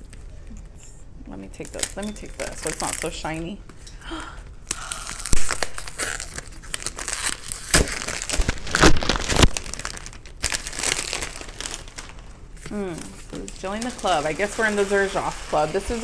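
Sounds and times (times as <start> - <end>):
plastic wrap crinkling: 1.4 - 3.9, 4.6 - 16.0
plastic wrap ripping: 1.5 - 3.6, 4.6 - 16.0.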